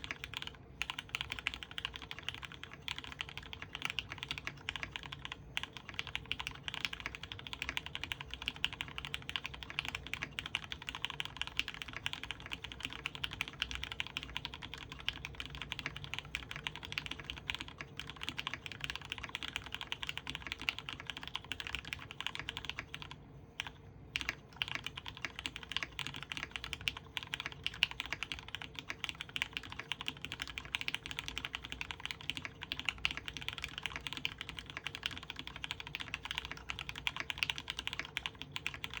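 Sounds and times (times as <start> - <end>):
fast mechanical keyboard typing: 0.0 - 39.0.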